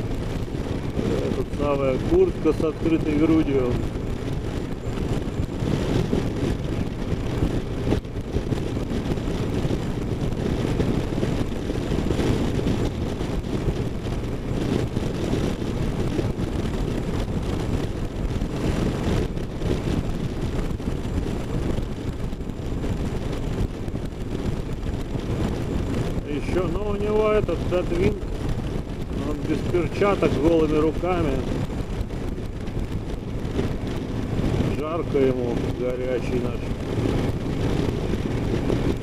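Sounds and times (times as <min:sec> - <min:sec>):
motorcycle engine and road rumble: 0:00.0 - 0:39.0
wind rushing over microphone: 0:00.0 - 0:39.0.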